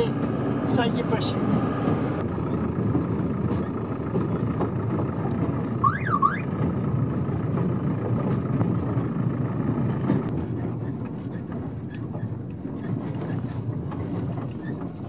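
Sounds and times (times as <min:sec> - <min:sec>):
rail vehicle engine and running noise: 0:00.0 - 0:15.0.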